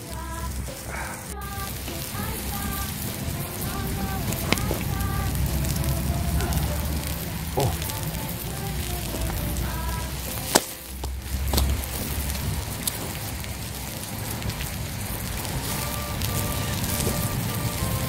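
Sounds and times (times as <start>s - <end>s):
fire snapping: 0.0s - 18.0s
pork sizzling: 0.0s - 18.0s
wood fire crackling: 0.0s - 18.0s.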